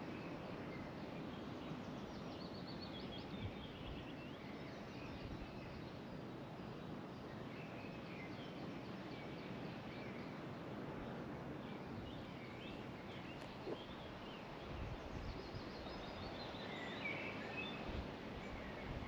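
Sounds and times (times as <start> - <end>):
songbirds singing: 0.1 - 19.0.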